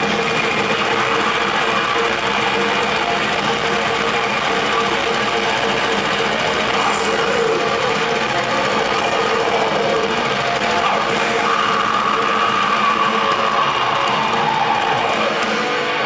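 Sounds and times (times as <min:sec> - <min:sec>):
black metal band playing live: 0:00.0 - 0:16.0.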